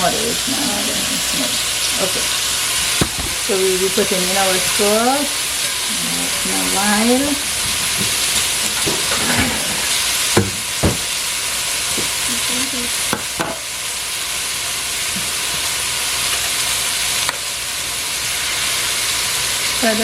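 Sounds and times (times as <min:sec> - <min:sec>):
okra sizzling in oil: 0:00.0 - 0:20.0.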